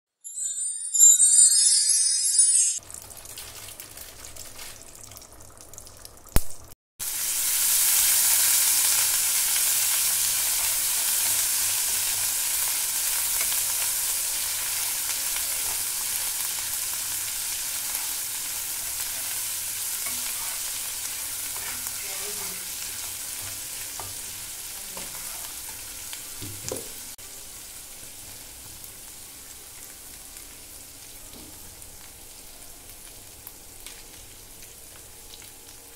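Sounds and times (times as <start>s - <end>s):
hot oil sizzling in a frying pan: 2.8s - 35.9s.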